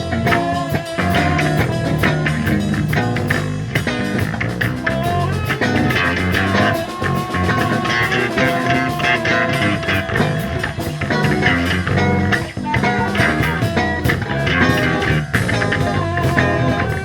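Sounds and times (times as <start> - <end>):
instrumental reggae band: 0.0 - 17.0.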